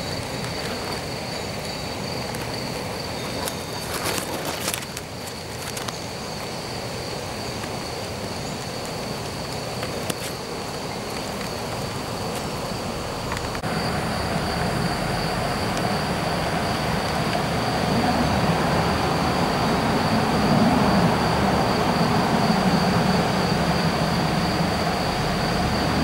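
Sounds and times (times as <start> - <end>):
background hiss: 0.0 - 26.0
crickets chirring: 0.0 - 26.0.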